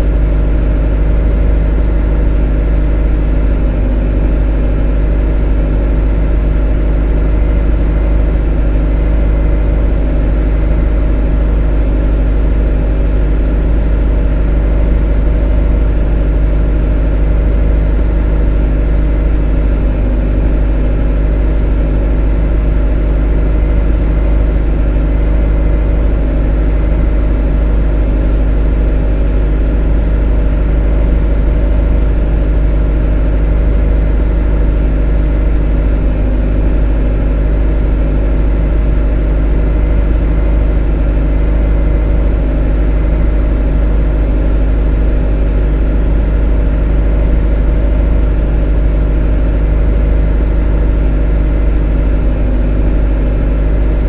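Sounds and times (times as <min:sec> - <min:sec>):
motor humming steadily: 0:00.0 - 0:54.0.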